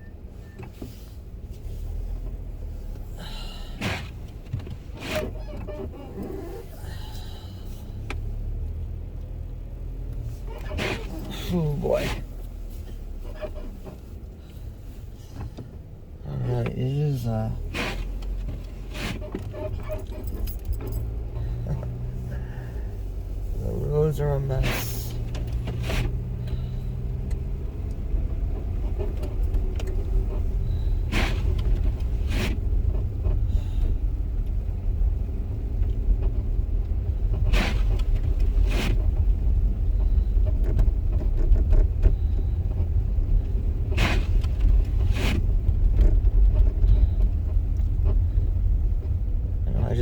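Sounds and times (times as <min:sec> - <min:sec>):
engine and tyre rumble: 0:00.0 - 0:50.0
windshield wipers sweeping: 0:00.3 - 0:50.0.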